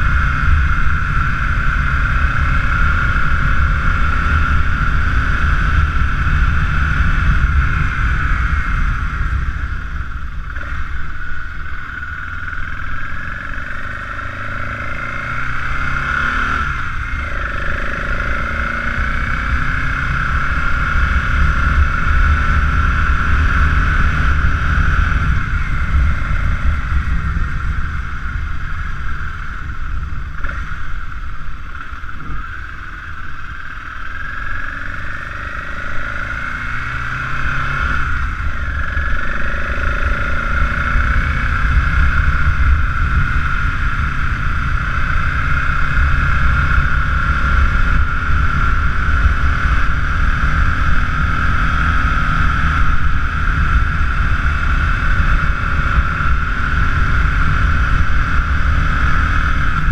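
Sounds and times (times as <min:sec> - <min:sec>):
motorcycle engine: 0:00.0 - 0:59.9
wind rumble on microphone: 0:00.0 - 0:59.9.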